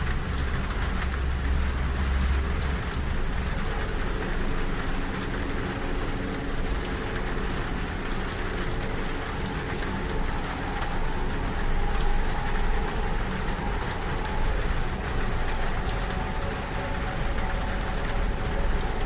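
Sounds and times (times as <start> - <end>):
moving train rumble: 0.0 - 19.0
rain pattering on window: 0.0 - 19.0.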